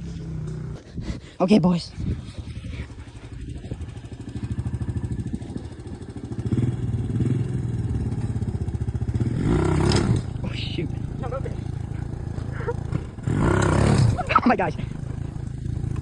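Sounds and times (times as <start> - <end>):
small engine revving: 0.0 - 1.1, 2.0 - 16.0.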